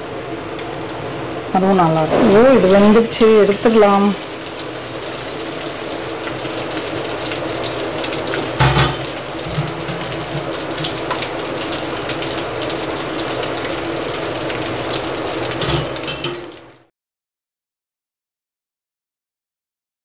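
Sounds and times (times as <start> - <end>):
food deep-frying in hot oil: 0.0 - 16.9.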